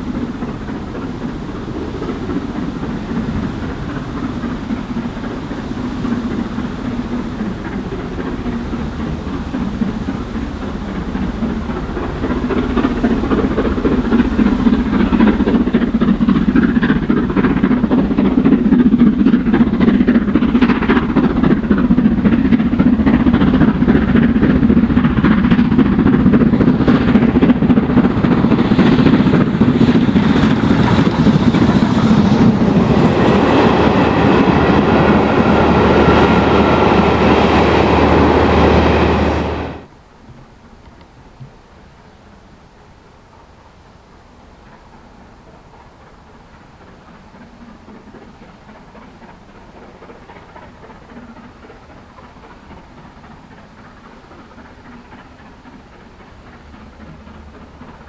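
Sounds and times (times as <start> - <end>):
coach wheels clattering over rails: 0.0 - 39.9, 44.4 - 58.0
steam train rolling past: 0.0 - 58.0.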